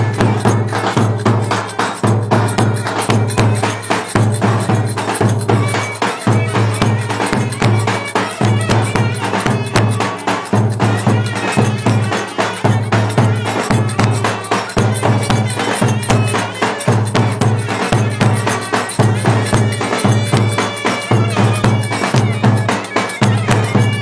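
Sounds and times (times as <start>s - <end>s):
clarinets playing reedy melody: 0.0s - 24.0s
driving percussion beat: 0.0s - 24.0s.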